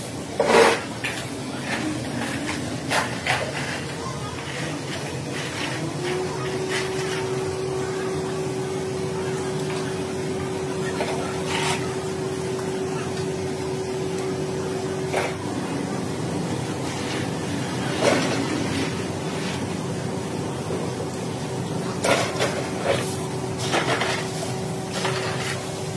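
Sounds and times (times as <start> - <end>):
machinery humming: 0.0 - 25.9
workshop background noise: 0.0 - 25.9.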